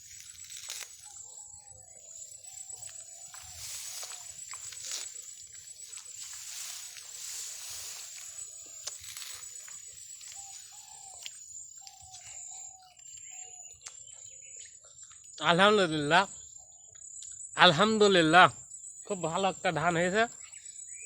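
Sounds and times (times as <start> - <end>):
high insect drone: 0.0 - 13.8, 15.3 - 21.0.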